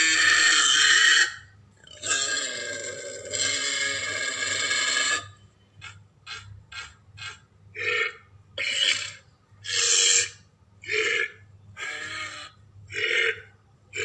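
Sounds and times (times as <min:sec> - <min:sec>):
creature rough vocal calls: 0:00.0 - 0:14.0.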